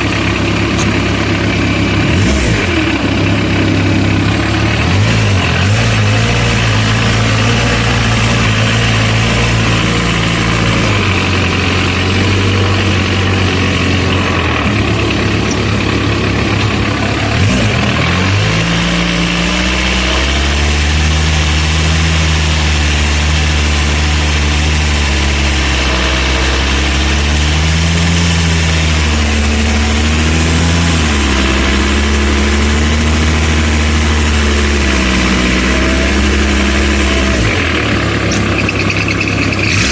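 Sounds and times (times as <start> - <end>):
tractor engine labouring: 0.0 - 39.9.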